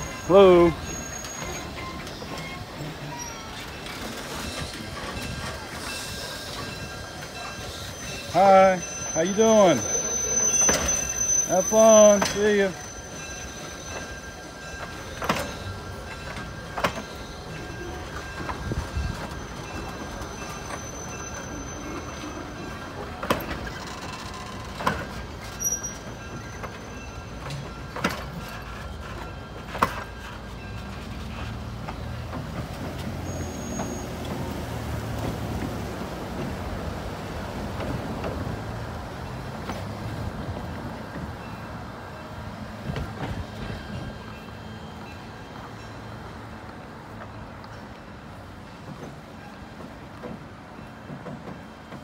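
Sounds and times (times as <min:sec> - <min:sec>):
train coaches rumbling past: 0:00.0 - 0:52.0.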